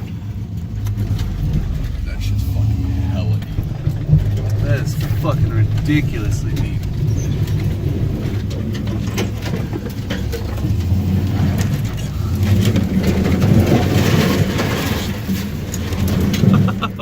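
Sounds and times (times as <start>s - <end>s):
knocks and clicks: 0.0s - 16.8s
truck engine droning: 0.0s - 17.0s
water splashing: 0.0s - 17.0s.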